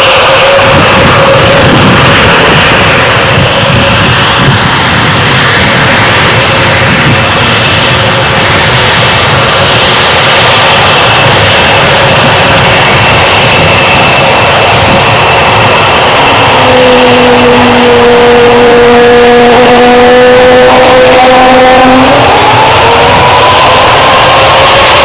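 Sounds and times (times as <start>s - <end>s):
jet engines running: 0.0s - 25.0s
lower whining tones: 0.0s - 25.0s.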